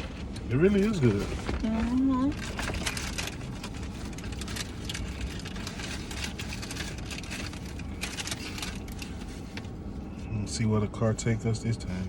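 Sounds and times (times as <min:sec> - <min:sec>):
car cabin engine hum: 0:00.0 - 0:12.0.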